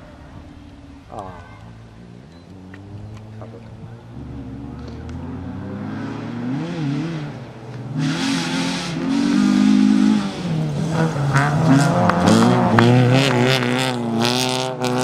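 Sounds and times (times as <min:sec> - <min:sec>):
rally car engine revving: 0:01.0 - 0:15.0.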